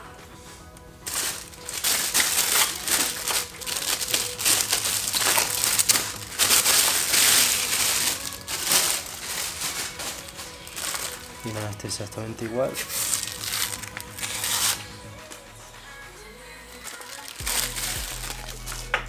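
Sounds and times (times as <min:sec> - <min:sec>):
plastic bag crinkling: 0:01.0 - 0:15.0, 0:16.7 - 0:19.0.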